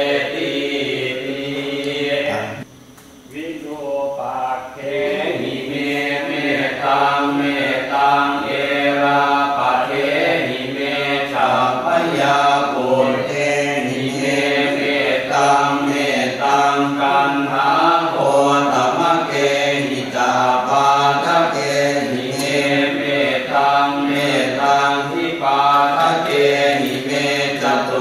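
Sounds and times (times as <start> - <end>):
sing-song chanting: 0.0 - 2.7, 3.3 - 28.0.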